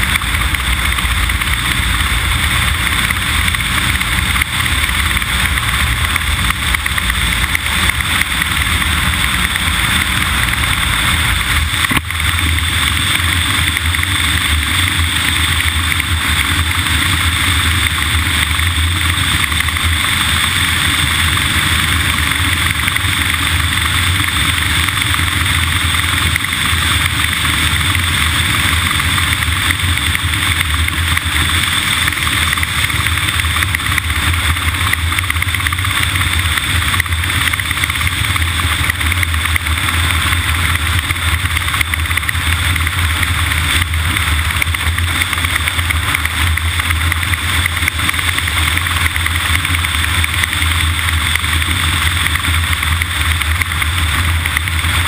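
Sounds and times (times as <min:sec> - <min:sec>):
constant noise: 0:00.0 - 0:55.0
vehicle engine hum: 0:00.0 - 0:55.0.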